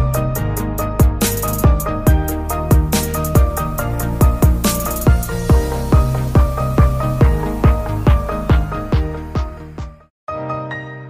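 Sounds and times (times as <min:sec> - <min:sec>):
electronic dance music: 0:01.2 - 0:10.1.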